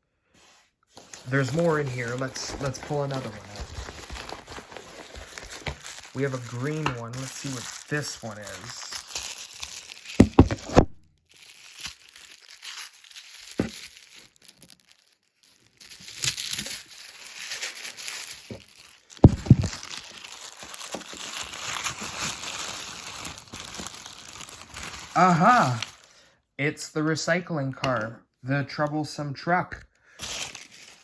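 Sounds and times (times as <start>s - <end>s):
paper wrapping crinkling and tearing: 0.9s - 26.1s, 30.2s - 31.0s.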